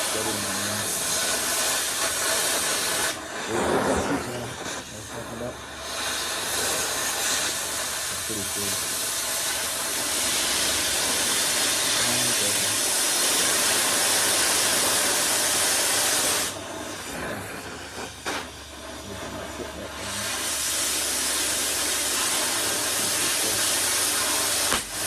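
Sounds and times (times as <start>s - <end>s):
cutting torch hissing: 0.0s - 25.0s.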